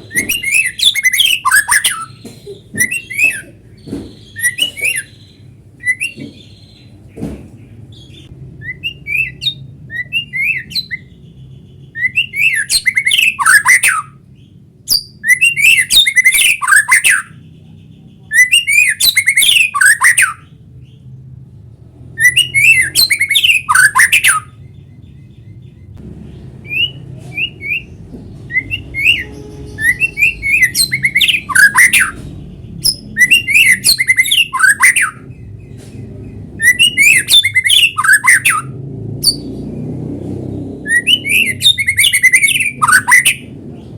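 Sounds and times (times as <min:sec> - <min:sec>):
bird chirps: 0:00.0 - 0:21.3, 0:22.0 - 0:43.9
bird singing rapid phrases: 0:00.0 - 0:43.9.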